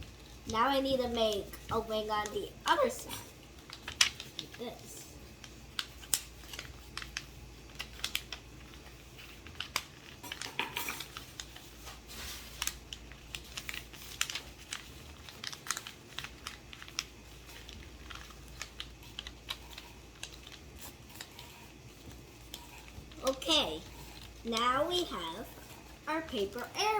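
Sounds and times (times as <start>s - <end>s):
paper folding rustles: 0.2s - 26.9s.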